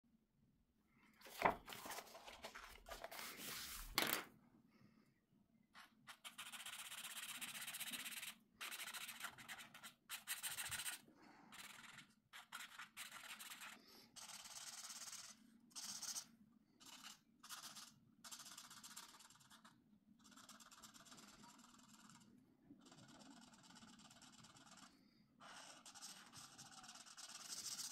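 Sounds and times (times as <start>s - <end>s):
marker rubbing on paper: 1.8s - 3.9s, 5.8s - 27.9s.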